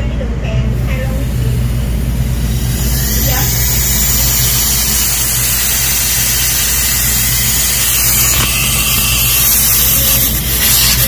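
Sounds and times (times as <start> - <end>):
low motor hum: 0.0 - 11.0
gas hissing through pipes: 0.7 - 11.0.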